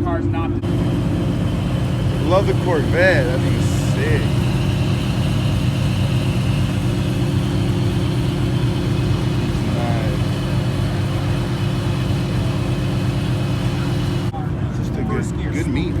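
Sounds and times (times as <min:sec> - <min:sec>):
car engine idling: 0:00.6 - 0:14.3.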